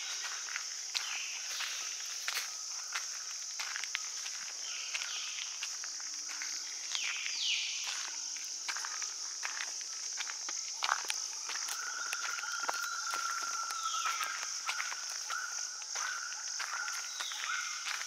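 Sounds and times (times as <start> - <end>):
footsteps on dirt path: 0.0 - 18.0
forest insects droning: 0.0 - 18.0.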